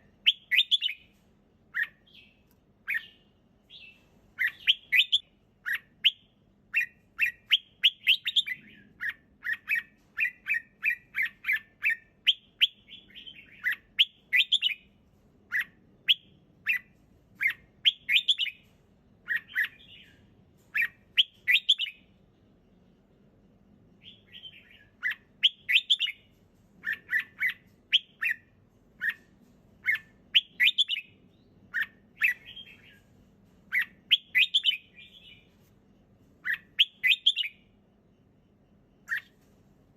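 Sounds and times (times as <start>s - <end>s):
bird chirping: 0.0s - 23.3s, 23.9s - 39.6s.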